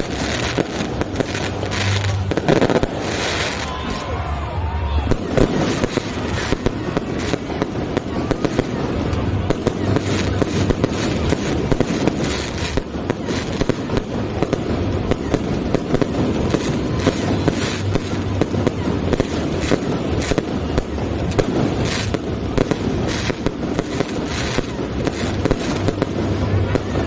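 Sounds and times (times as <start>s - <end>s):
fireworks cracks and bangs: 0.0s - 27.0s.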